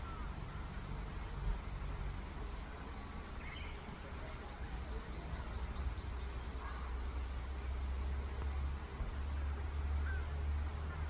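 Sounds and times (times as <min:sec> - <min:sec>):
low steady rumble: 0:00.0 - 0:11.0
songbird singing: 0:00.0 - 0:11.0.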